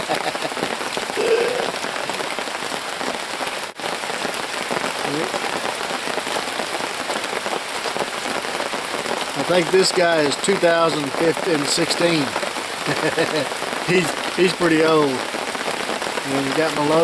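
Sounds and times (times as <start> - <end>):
steady rain pattering: 0.0 - 17.0.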